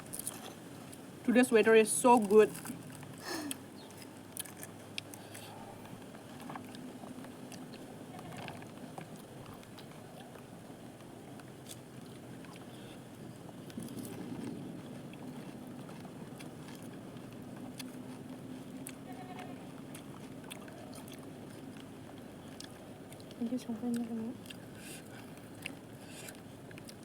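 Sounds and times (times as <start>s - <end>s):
person chewing and crunching: 0.0s - 1.0s, 2.5s - 12.9s, 13.5s - 27.0s
steady low hum: 0.0s - 27.0s.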